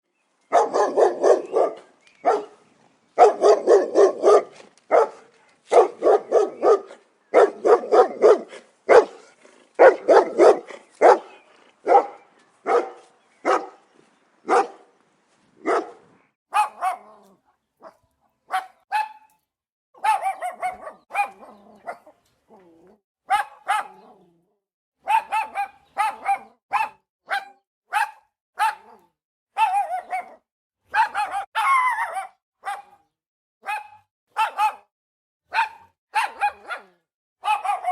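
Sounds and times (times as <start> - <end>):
dogs barking angrily: 0.5 - 2.6, 3.2 - 13.8, 14.5 - 14.9, 15.6 - 17.2, 17.8 - 19.2, 20.0 - 22.2, 23.3 - 24.2, 25.0 - 33.0, 33.6 - 34.9, 35.5 - 37.9.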